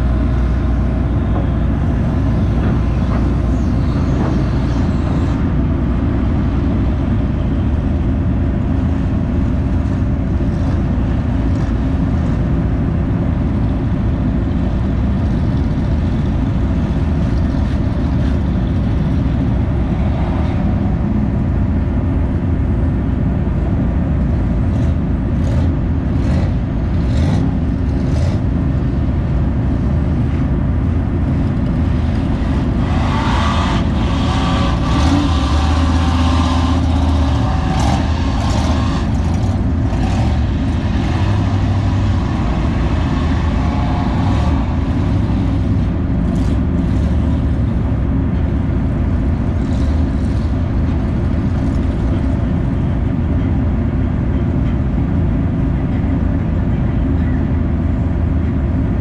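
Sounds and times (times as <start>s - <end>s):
truck engine revving: 0.0s - 53.1s
diesel engine rumbling: 0.0s - 59.0s.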